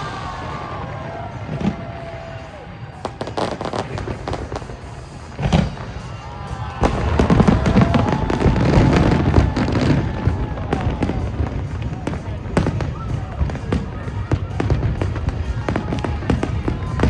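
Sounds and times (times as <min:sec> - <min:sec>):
firework crackling: 0:00.0 - 0:17.0
heavy firework booms: 0:03.0 - 0:17.0.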